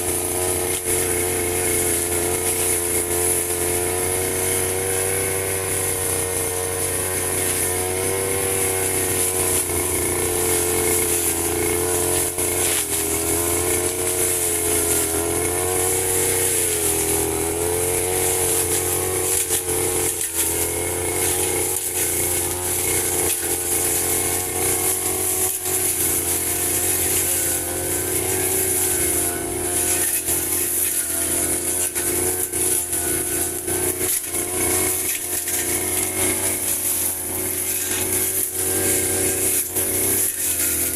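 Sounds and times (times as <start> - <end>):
brush cutter cutting grass: 0.0 - 40.9.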